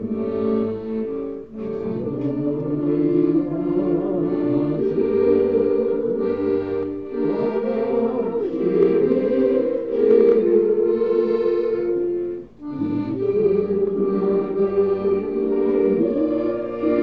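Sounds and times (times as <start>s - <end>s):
accordion chords: 0.0s - 17.0s
group singing folk song: 0.0s - 17.0s.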